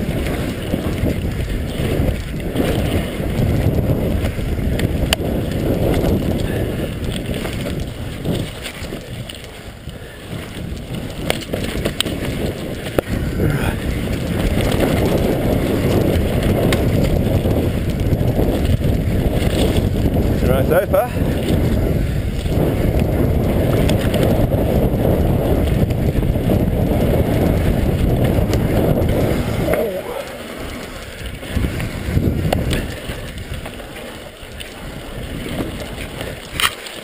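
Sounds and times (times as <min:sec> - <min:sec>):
tyres rumbling on dirt: 0:00.0 - 0:37.0
wind rushing over microphone: 0:00.0 - 0:37.0.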